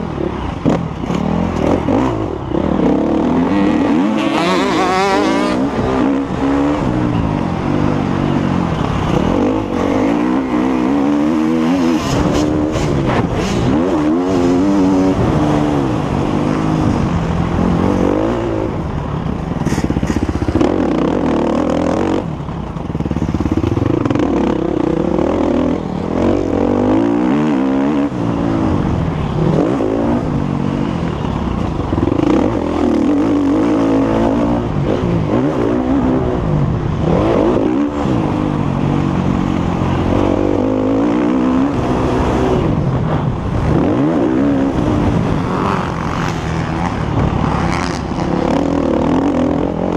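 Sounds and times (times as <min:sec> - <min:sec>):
motocross bike engine revving: 0:00.0 - 0:18.9, 0:22.9 - 0:49.9.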